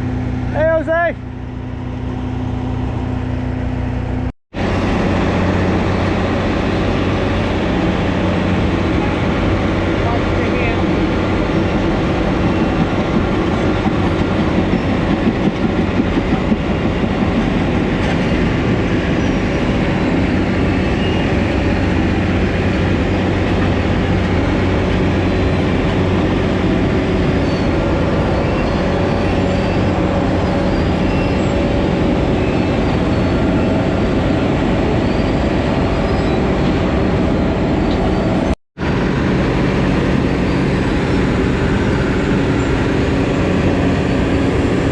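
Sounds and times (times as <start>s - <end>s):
diesel engine hum: 0.0s - 44.9s.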